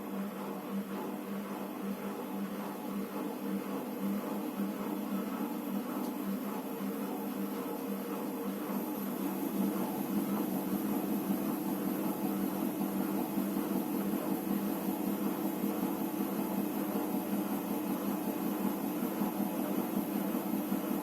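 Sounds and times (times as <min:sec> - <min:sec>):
washing machine humming: 0:00.0 - 0:21.0.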